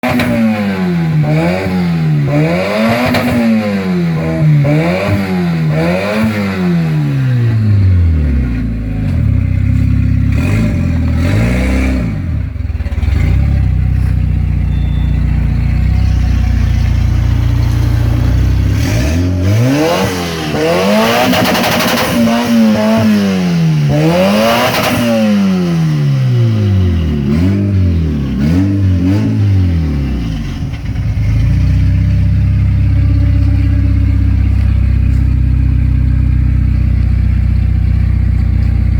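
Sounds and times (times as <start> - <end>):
car engine revving and idling: 0.0 - 38.9.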